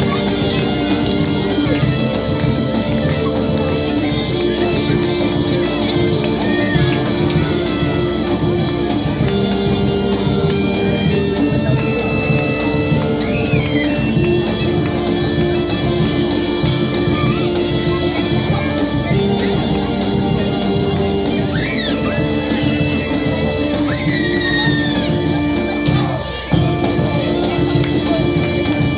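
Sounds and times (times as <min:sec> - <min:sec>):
continuous drone: 0:00.0 - 0:28.9
drums beating: 0:00.0 - 0:28.9
held melody notes: 0:00.0 - 0:28.9.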